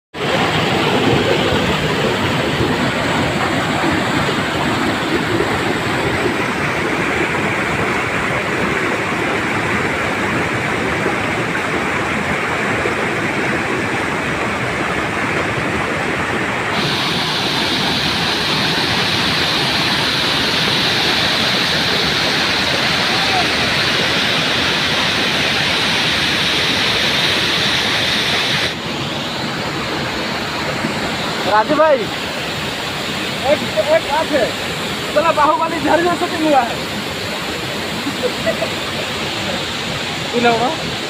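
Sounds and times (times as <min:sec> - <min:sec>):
waterfall rushing: 0:00.2 - 0:41.0.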